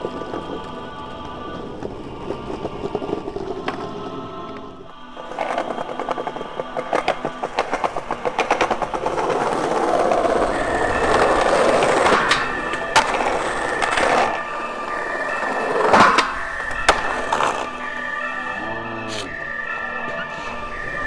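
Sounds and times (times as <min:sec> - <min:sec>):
skateboard clacking on ground: 0:00.0 - 0:18.6
skateboard wheels rolling and clicking: 0:00.0 - 0:18.6, 0:19.3 - 0:21.0
skateboard scraping: 0:00.0 - 0:21.0.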